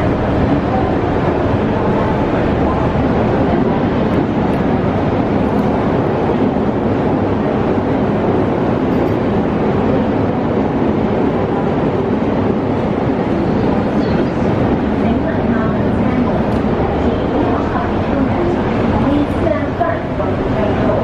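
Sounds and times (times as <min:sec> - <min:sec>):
train carriage interior noise: 0:00.0 - 0:21.0.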